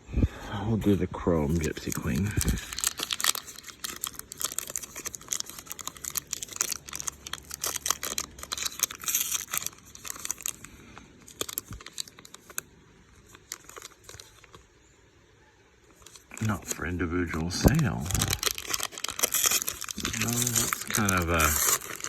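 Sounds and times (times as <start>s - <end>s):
wrapper tearing and crinkling: 1.4s - 14.9s, 15.9s - 22.0s.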